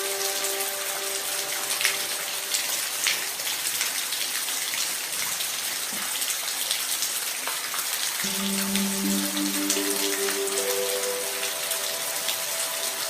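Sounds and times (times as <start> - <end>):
individual raindrops: 0.0 - 13.0
steady rain falling: 0.0 - 13.0.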